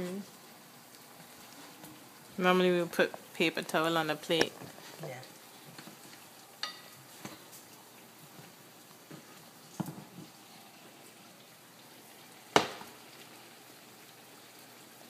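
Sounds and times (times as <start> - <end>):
cakes sizzling in oil: 0.0 - 15.0.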